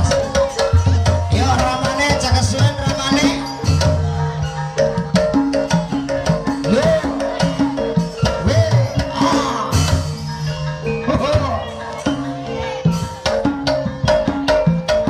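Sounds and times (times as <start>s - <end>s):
gong and metallophone tones: 0.0s - 15.0s
hand drums beating: 0.0s - 15.0s.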